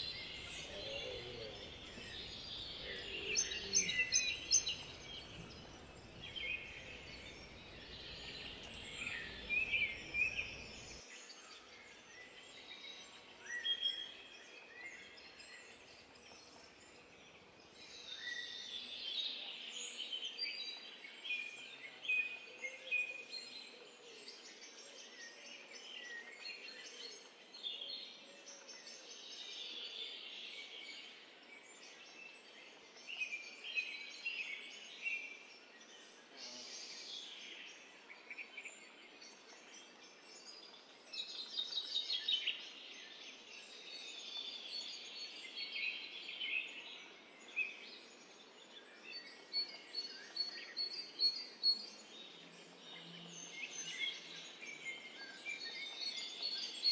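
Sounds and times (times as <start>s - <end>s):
songbirds chirping and singing: 0.0s - 56.9s.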